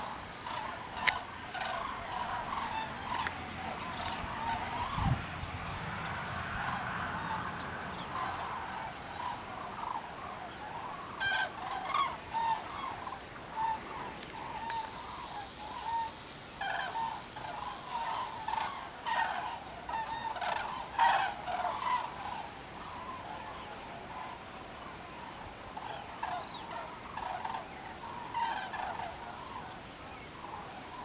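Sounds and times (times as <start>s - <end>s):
cranes calling in flight: 0.0s - 5.2s, 6.6s - 31.0s.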